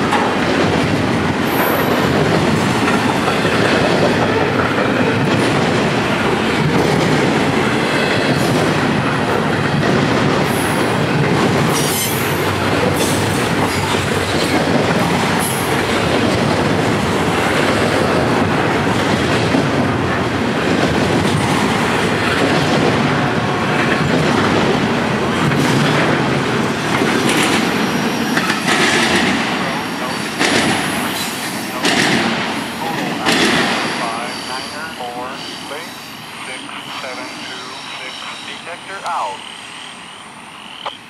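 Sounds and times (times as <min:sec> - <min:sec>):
train wheels clattering on rails: 0:00.0 - 0:39.2.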